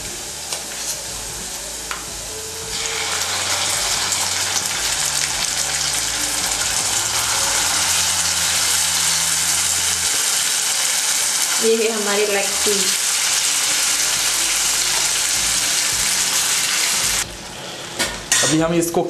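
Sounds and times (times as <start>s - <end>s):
chicken sizzling in hot oil: 0.0s - 17.2s.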